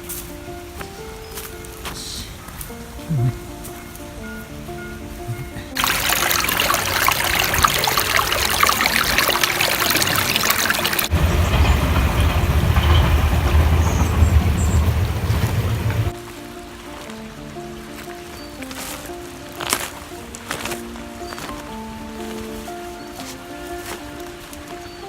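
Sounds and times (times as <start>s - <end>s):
low rumbling water rush: 0.0s - 25.0s
river water splashing: 0.0s - 25.0s.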